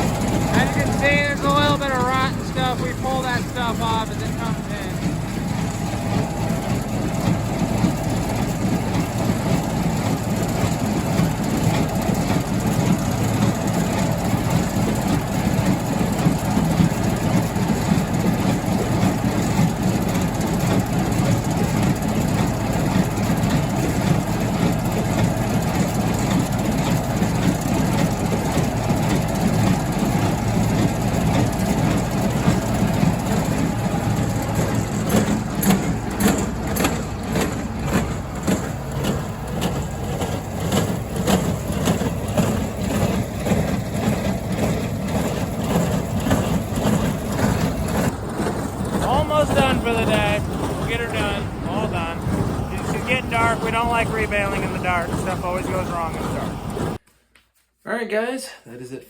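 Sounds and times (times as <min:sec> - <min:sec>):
farm machinery engine running: 0:00.0 - 0:57.0.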